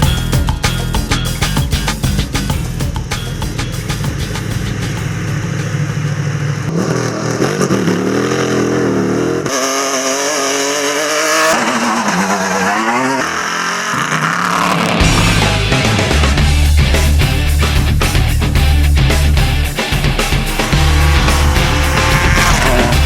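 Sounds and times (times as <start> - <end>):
vehicle engines revving hard: 1.5 - 23.0.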